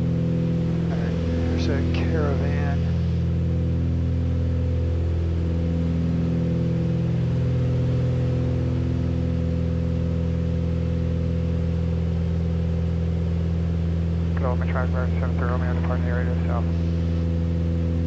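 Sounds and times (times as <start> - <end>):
aircraft cabin engine drone: 0.0 - 18.0.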